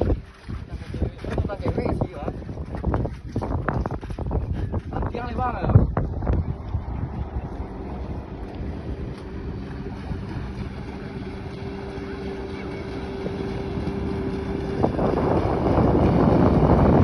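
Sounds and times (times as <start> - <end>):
motorboat engine humming: 0.0 - 17.0
wind buffeting microphone: 0.0 - 17.0.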